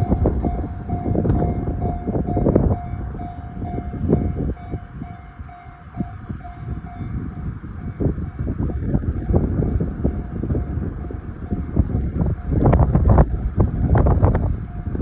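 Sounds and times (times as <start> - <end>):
level crossing warning bell: 0.0 - 15.0
passing train rumble: 0.0 - 15.0
wind on microphone: 0.0 - 15.0.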